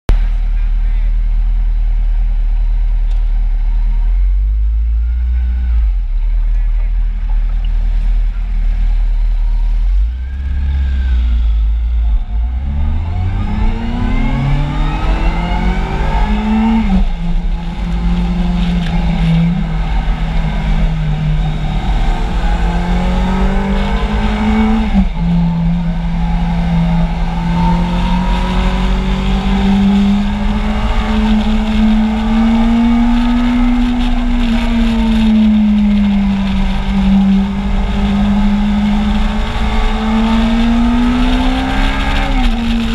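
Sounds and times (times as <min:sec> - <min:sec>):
motorcycle engine revving: 0:03.4 - 0:42.9.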